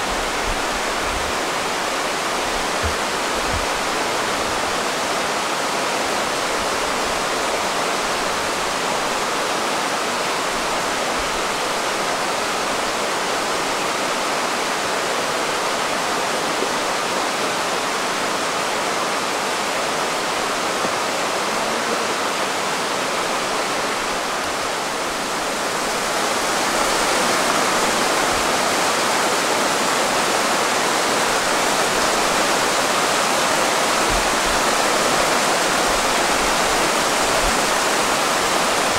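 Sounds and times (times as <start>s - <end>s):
fast mountain stream rushing: 0.0s - 38.9s.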